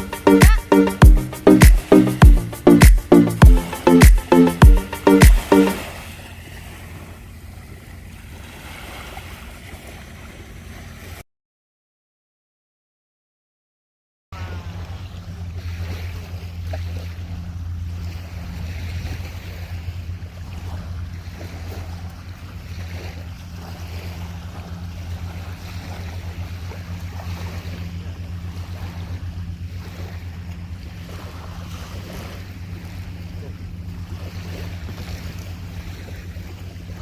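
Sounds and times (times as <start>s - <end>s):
low motor drone: 0.0s - 8.4s, 14.4s - 37.0s
water noise: 0.0s - 11.2s, 14.4s - 37.0s
wind: 0.0s - 11.2s, 14.3s - 37.0s.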